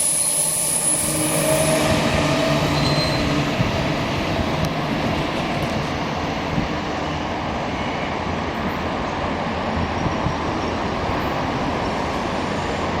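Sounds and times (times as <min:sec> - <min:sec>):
electric train rumbling on rails: 0:00.0 - 0:13.0.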